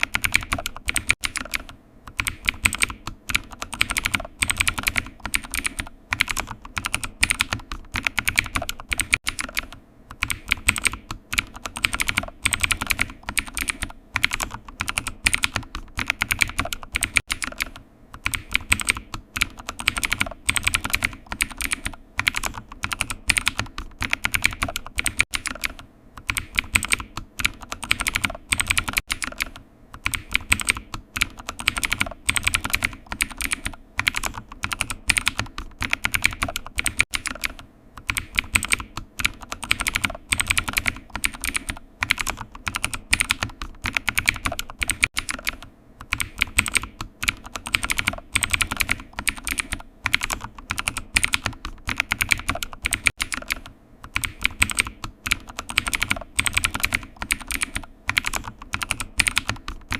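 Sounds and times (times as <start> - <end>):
keyboard typing: 0.0 - 59.9.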